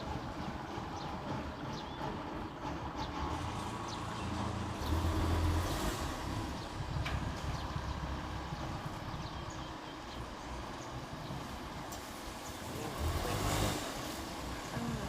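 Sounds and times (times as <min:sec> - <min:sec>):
combine harvester diesel engine: 0:00.0 - 0:15.0.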